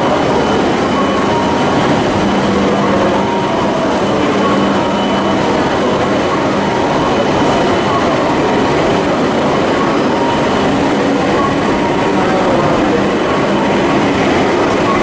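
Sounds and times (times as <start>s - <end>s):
train rumbling with faint whine: 0.0s - 15.0s.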